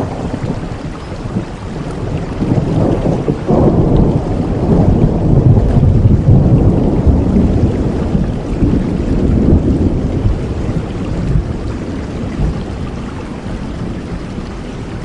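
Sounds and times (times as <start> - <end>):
deep thunder rumbling: 0.0 - 15.0
heavy rain falling: 0.0 - 15.0.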